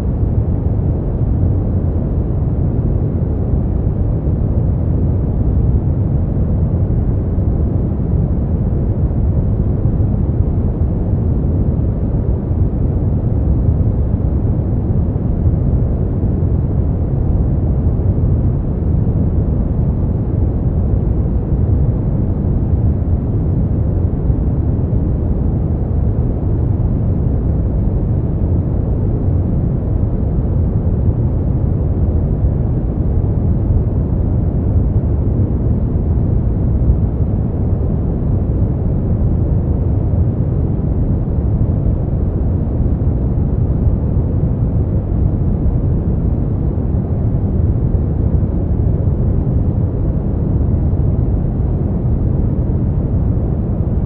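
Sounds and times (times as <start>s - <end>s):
brown noise rumble: 0.0s - 54.0s.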